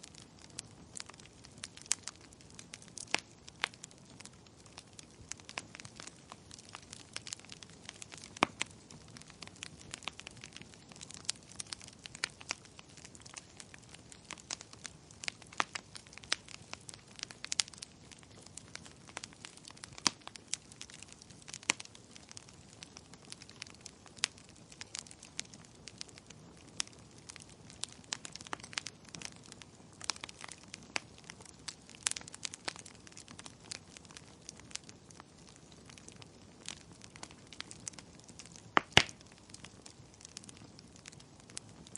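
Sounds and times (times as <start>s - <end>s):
soft steady hiss: 0.0s - 41.9s
wood fire crackling and popping: 0.0s - 41.9s.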